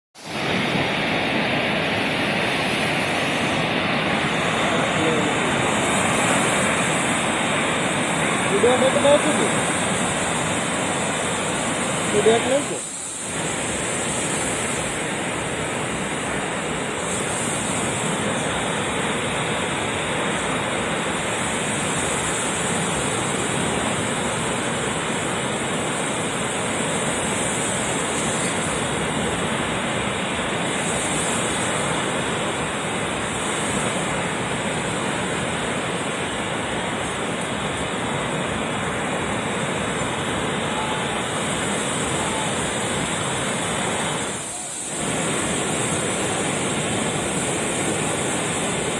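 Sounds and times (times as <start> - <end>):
waves breaking on sandy shore: 0.2 - 48.9.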